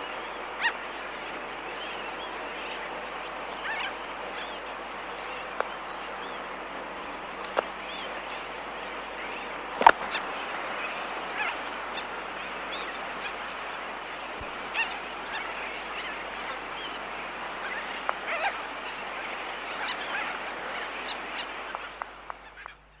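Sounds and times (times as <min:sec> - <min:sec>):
distant tern chorus: 0:00.0 - 0:23.0.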